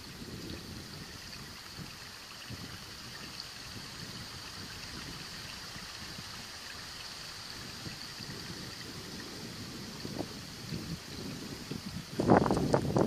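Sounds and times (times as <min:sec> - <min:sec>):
outdoor hiss like trickling water: 0:00.0 - 0:13.0.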